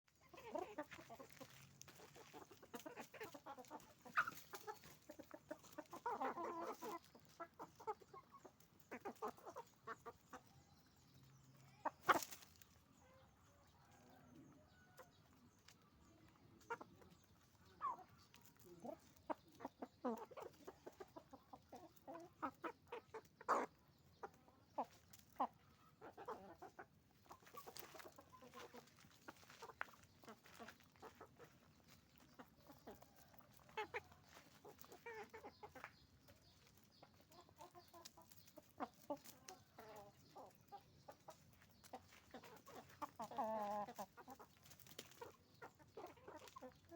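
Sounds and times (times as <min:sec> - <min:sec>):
chickens clucking: 0:00.1 - 0:46.9.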